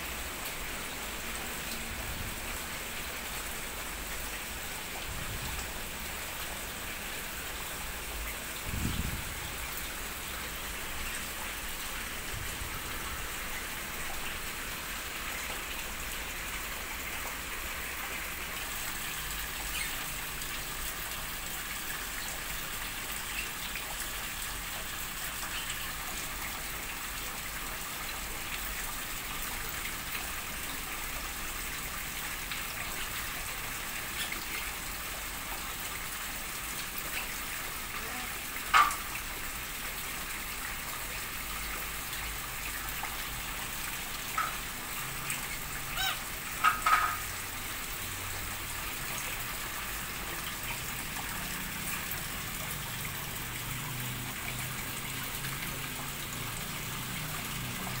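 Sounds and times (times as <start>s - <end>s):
falling water hissing: 0.0s - 58.0s.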